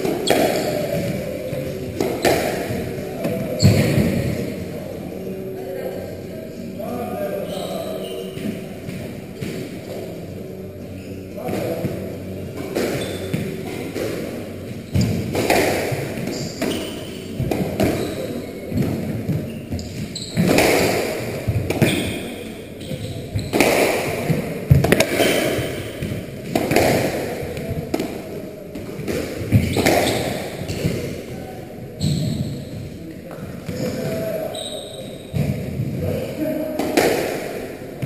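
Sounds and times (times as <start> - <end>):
squash ball hitting rackets and walls: 0.0 - 4.7, 11.4 - 38.0.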